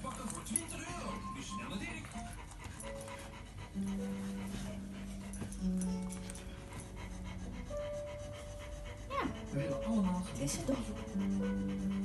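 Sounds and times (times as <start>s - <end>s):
background music with held notes: 0.0s - 12.0s
dog panting: 0.0s - 12.0s.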